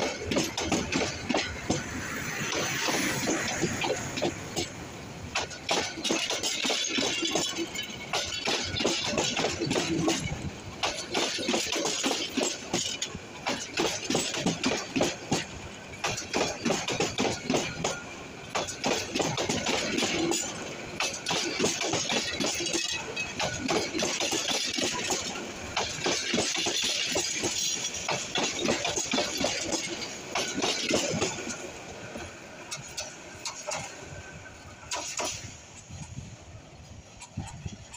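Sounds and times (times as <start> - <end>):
train wheels clattering on track: 0.0 - 37.9.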